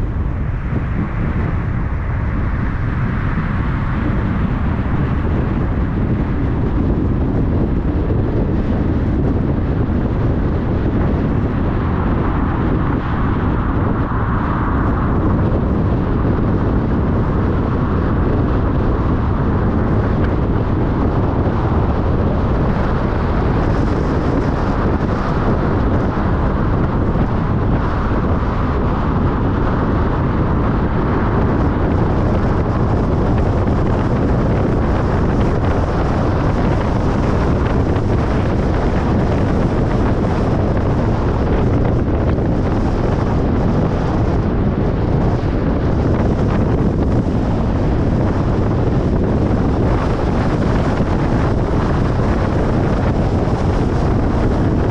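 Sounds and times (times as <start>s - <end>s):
car road noise: 0.0s - 54.9s.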